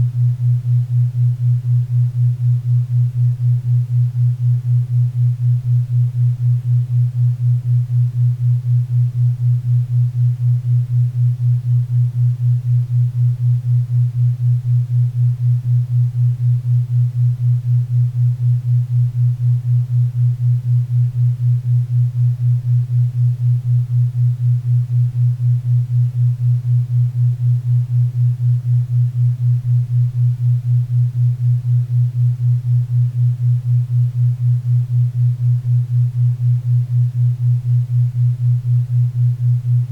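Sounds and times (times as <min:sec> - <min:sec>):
low pulsing hum-like tone: 0:00.0 - 0:39.9.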